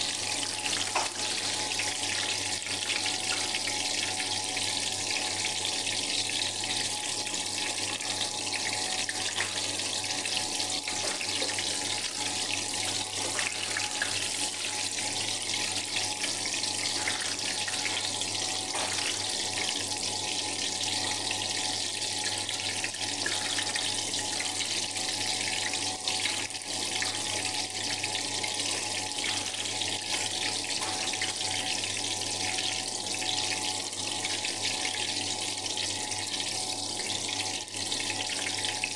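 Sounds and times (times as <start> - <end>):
slices sizzling in hot oil: 0.1 - 4.4, 6.7 - 34.2.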